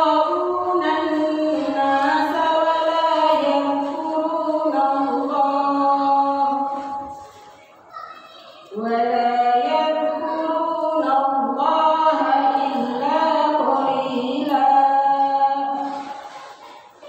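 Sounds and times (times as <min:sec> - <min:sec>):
woman chanting: 0:00.0 - 0:07.2, 0:08.7 - 0:16.4.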